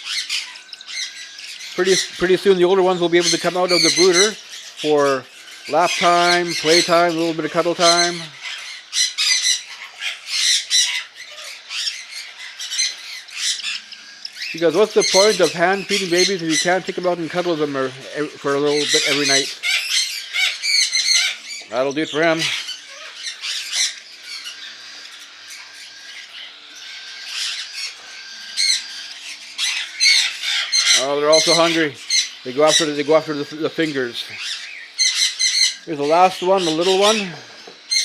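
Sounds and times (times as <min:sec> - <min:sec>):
cockatiel chicks begging calls: 0:00.0 - 0:38.0.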